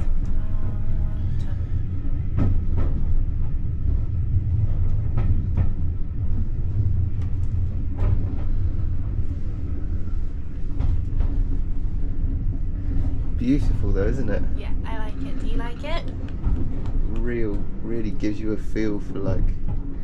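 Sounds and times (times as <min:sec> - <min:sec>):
train rumble in tunnel: 0:00.0 - 0:20.0.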